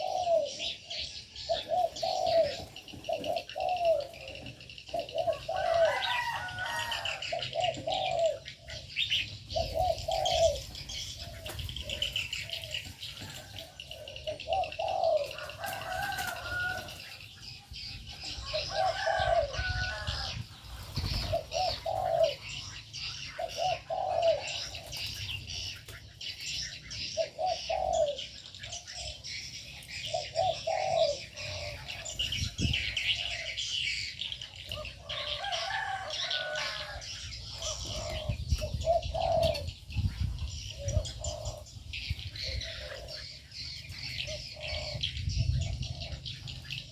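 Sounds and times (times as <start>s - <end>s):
doves cooing: 0.0s - 46.9s
small birds chirping and twittering: 0.0s - 46.9s.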